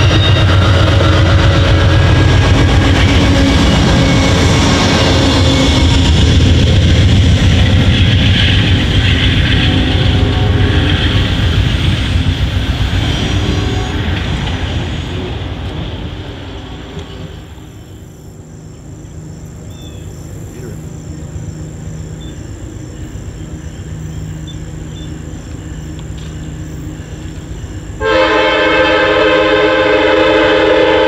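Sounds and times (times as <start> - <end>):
faint hum of distant train: 0.0 - 31.0
passenger train rumble: 0.0 - 31.0.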